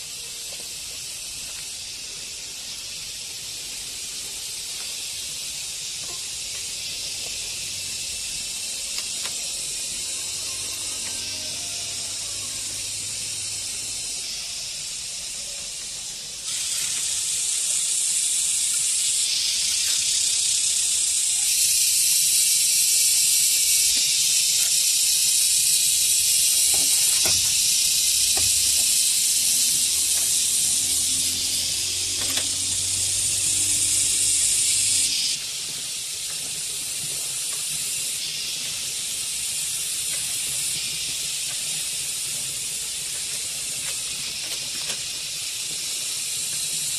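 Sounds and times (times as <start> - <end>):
cicada chorus: 0.0 - 46.9.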